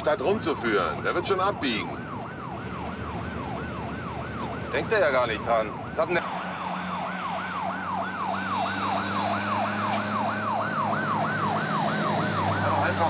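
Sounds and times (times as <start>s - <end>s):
police siren yelping: 0.0s - 13.0s.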